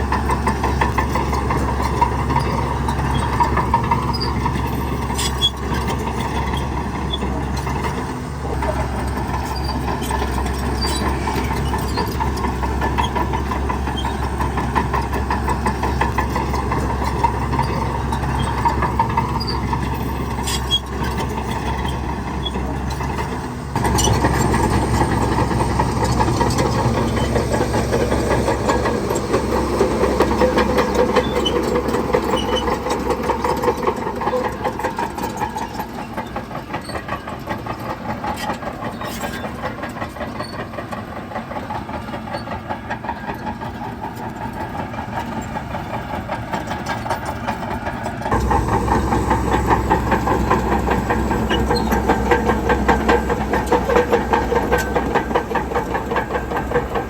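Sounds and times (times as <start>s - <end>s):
diesel machinery engine clatter: 0.0s - 57.0s.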